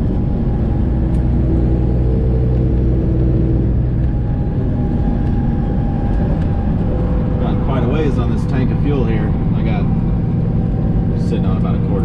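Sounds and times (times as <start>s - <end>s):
truck engine drone inside cab: 0.0s - 12.0s.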